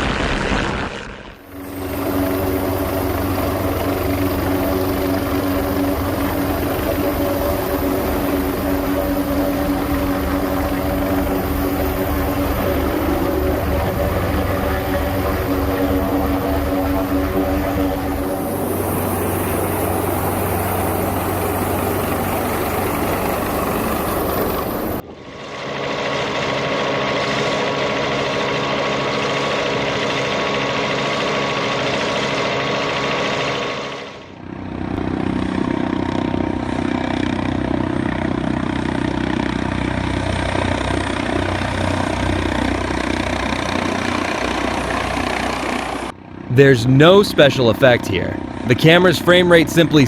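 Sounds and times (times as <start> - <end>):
helicopter engines and rotors: 1.4 - 50.0
steady engine tones: 1.4 - 50.0.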